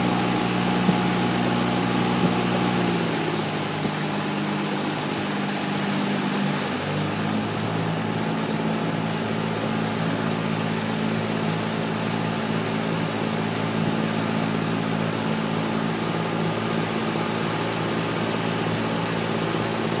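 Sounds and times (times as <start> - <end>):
outboard motor running: 0.0 - 20.0
wind and water rushing: 0.0 - 20.0.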